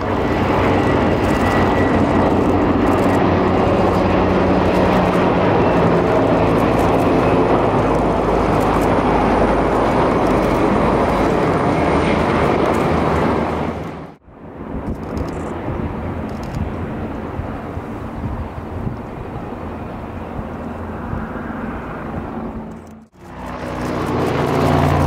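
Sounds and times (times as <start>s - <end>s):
helicopters flying past: 0.0s - 25.0s.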